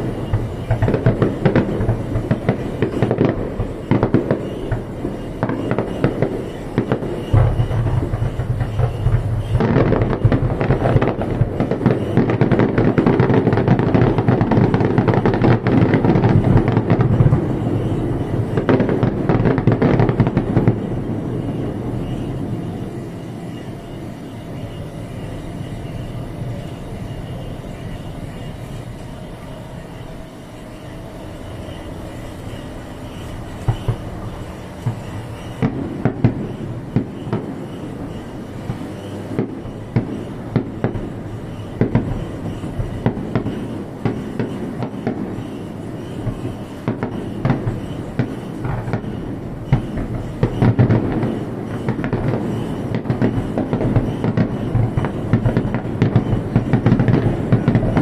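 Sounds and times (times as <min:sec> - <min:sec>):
faint held tone: 0:00.0 - 0:58.0
fireworks bursting: 0:00.0 - 0:58.0.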